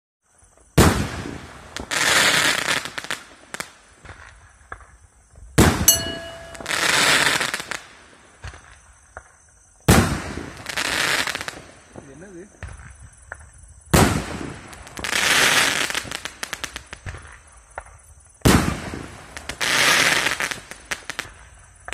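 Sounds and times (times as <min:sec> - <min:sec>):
small firework pops: 0:00.5 - 0:05.8, 0:07.6 - 0:21.9.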